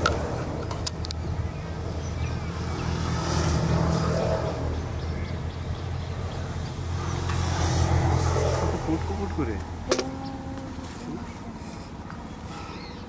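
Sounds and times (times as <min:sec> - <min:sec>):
low engine-like drone: 0:00.0 - 0:13.0.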